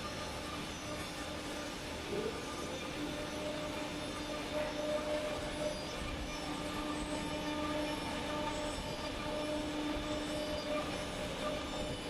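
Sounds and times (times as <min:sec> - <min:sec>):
boring machine whine: 0:00.0 - 0:12.0.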